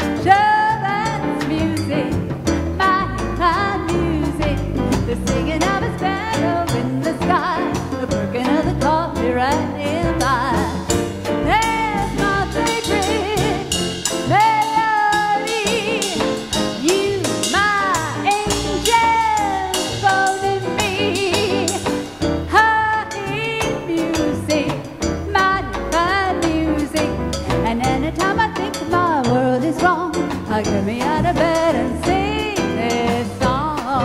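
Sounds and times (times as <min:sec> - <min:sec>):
live dance band playing: 0:00.0 - 0:34.0.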